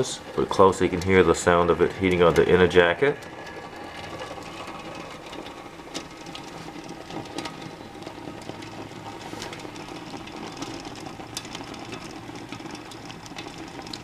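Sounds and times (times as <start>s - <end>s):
electric kettle humming: 0.0s - 14.0s
ticks and crackles of heating kettle: 0.0s - 14.0s.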